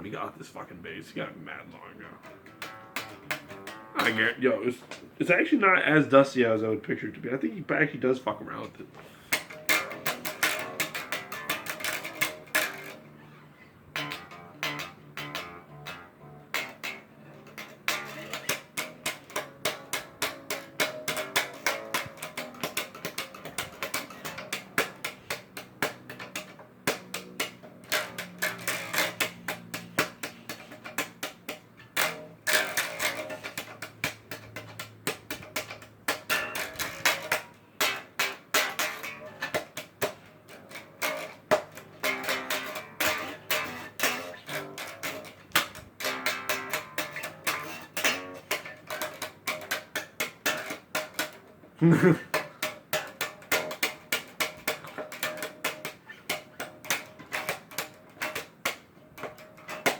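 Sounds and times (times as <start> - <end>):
bass guitar plucked: 0.8 - 7.5, 8.3 - 59.9.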